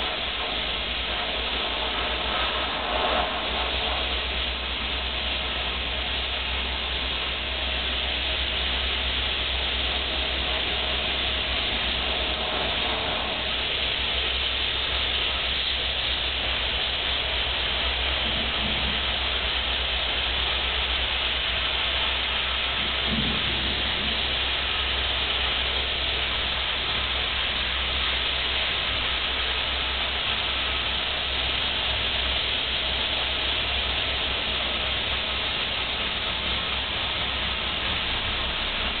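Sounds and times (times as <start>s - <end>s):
low hum: 0.0s - 39.0s
rain pelting glass window: 0.0s - 39.0s.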